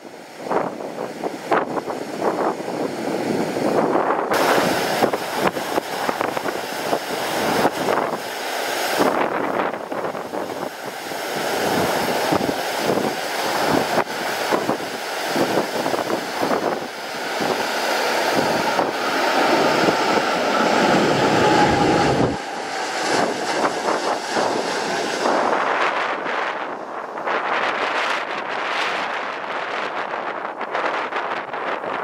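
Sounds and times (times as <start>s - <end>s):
jet airliner engine whine: 0.0s - 32.0s
wind buffeting microphone: 0.0s - 32.0s.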